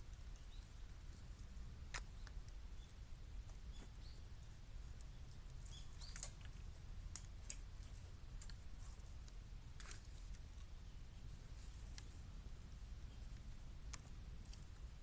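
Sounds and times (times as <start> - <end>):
bamboo fire crackling: 0.0 - 15.0
low steady rumble: 0.0 - 15.0.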